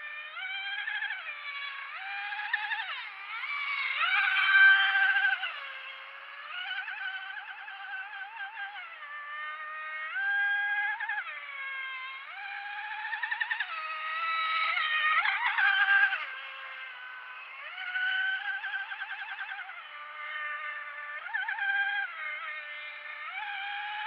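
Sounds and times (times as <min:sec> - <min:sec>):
high-pitched electric motor whine: 0:00.0 - 0:24.0.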